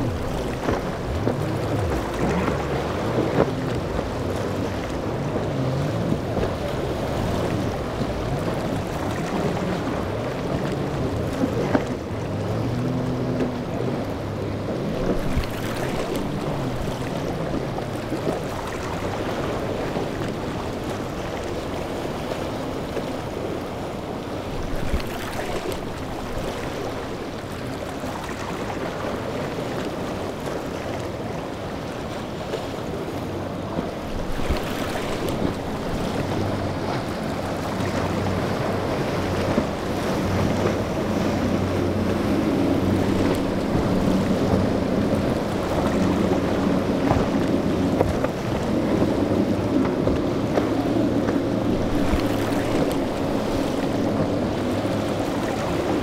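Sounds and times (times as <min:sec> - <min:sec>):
choppy water: 0:00.0 - 0:56.0
outboard boat engines: 0:00.0 - 0:56.0.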